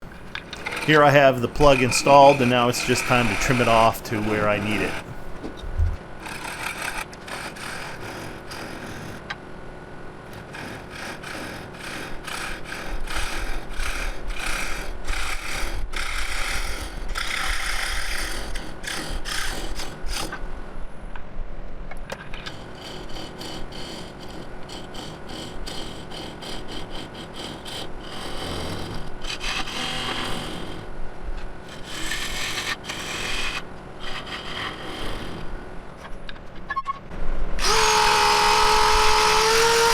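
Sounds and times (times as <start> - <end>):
hand saw cutting wood: 0.0 - 9.4, 10.3 - 20.4, 22.1 - 36.2, 37.6 - 39.9.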